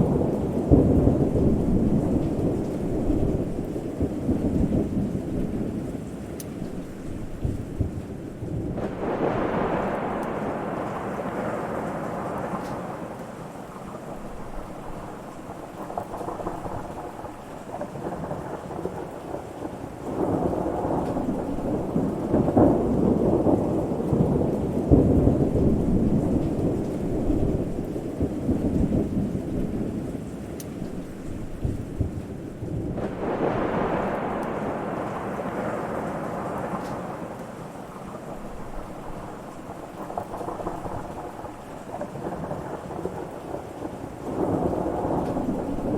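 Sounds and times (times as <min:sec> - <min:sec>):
rain: 0:00.0 - 0:45.9
rolling thunder: 0:00.0 - 0:45.9.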